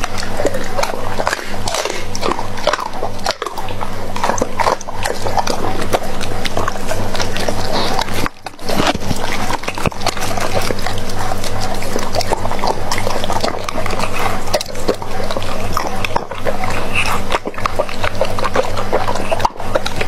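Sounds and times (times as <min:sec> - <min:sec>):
dog chewing and slurping: 0:00.0 - 0:20.0
quick teeth clicks: 0:00.0 - 0:20.0.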